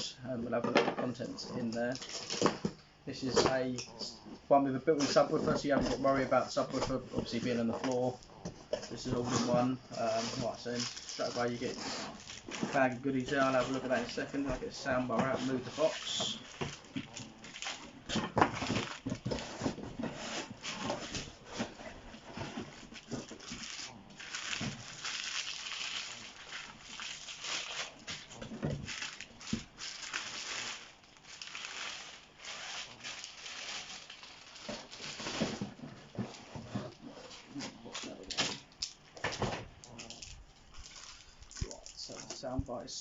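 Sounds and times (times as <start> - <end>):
packaging rustling and crinkling: 1.1 - 3.8, 4.9 - 42.9.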